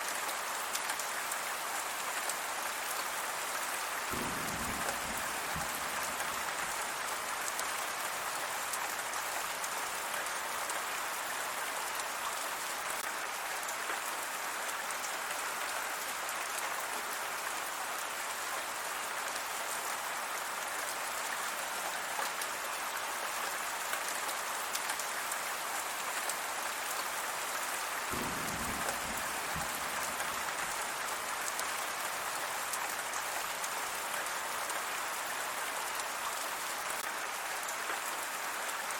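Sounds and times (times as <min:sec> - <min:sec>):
raindrops ticking on a surface: 0:00.0 - 0:38.9
steady rain hiss: 0:00.0 - 0:38.9.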